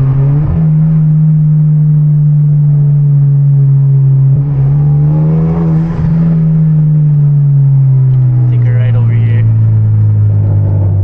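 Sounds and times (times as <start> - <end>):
loud car exhaust droning: 0.0 - 11.0.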